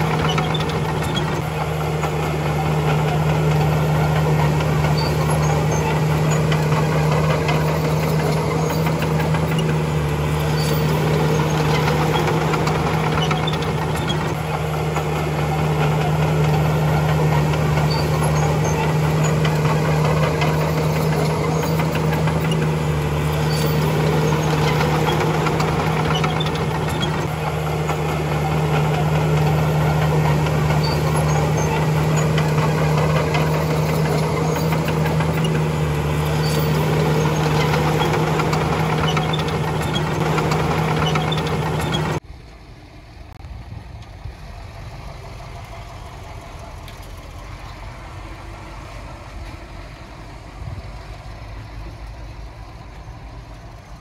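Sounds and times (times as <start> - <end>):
heavy diesel engine humming: 0.0 - 54.0.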